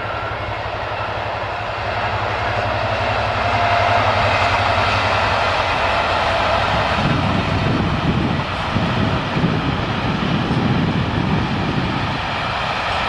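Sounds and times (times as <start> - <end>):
diesel locomotive engine throbbing: 0.0 - 13.0.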